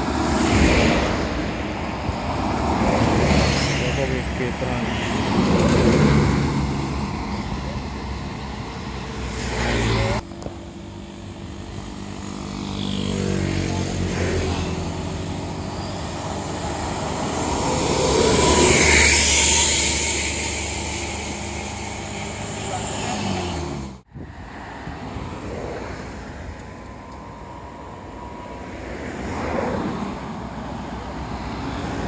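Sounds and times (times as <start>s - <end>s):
buses passing: 0.0s - 32.0s.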